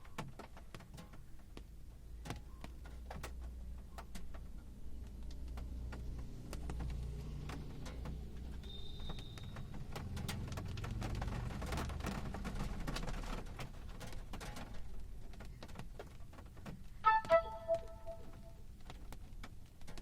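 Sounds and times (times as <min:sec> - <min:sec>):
rain falling and dripping: 0:00.0 - 0:20.0.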